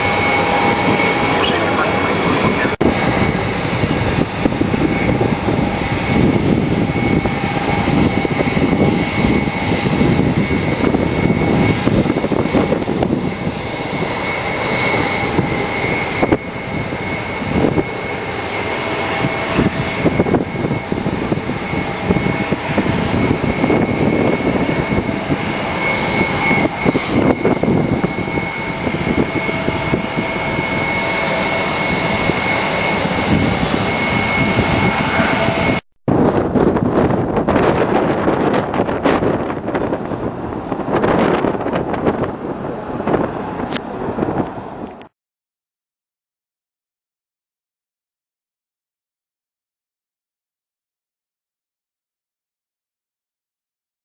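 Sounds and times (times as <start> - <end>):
jet engine rumble: 0.0 - 45.2
jet engine turbine whine: 0.0 - 45.2.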